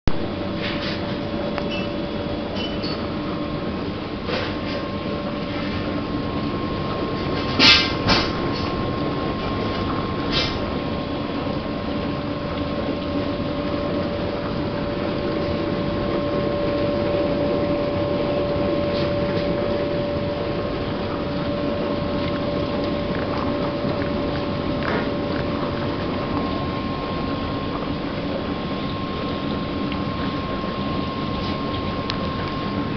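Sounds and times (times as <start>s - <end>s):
steady whine: 0.1s - 32.9s
dishwasher water rushing: 0.4s - 32.9s.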